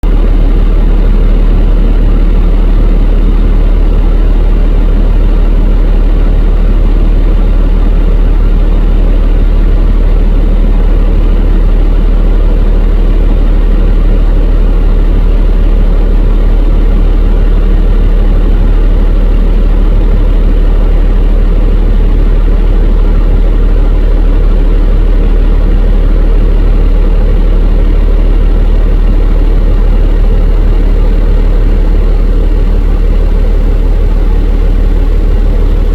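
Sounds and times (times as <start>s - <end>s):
helicopter engine and rotor rumble: 0.0s - 35.9s.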